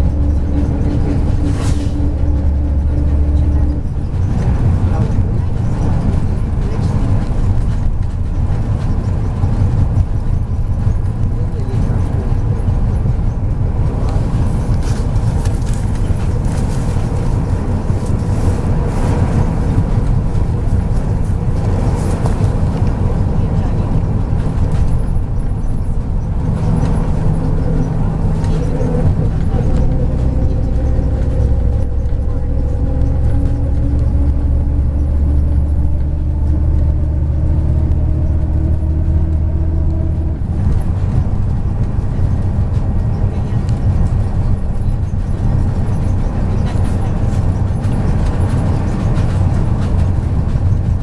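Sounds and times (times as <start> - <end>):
bus engine rumble: 0.0 - 51.0
road noise: 0.0 - 51.0.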